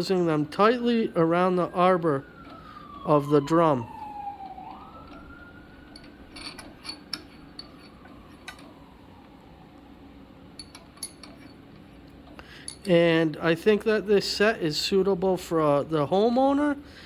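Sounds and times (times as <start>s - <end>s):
faint siren: 0.0s - 12.5s, 13.6s - 17.0s.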